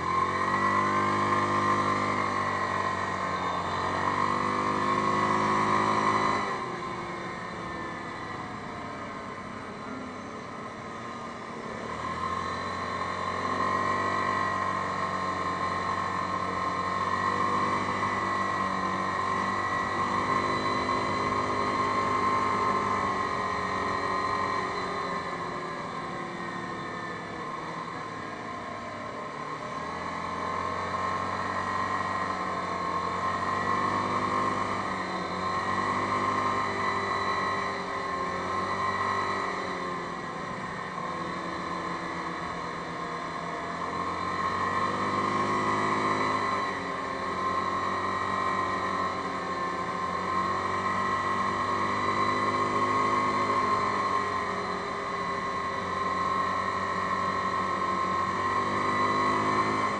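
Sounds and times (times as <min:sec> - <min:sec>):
atv engine revving: 0:00.0 - 0:59.9
high whine: 0:00.0 - 0:59.9.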